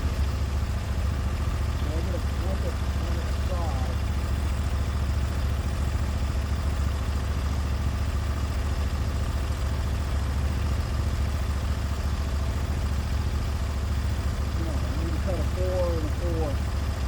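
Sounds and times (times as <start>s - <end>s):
sawmill engine humming: 0.0s - 17.0s.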